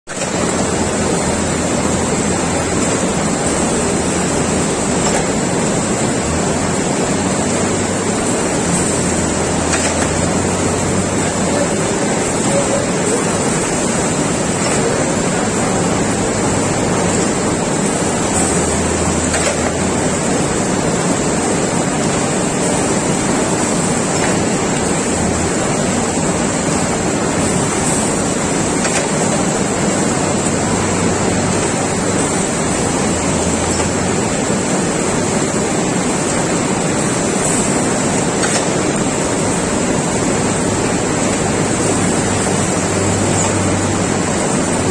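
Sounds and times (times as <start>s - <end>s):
loud machinery noise: 0.1s - 44.9s.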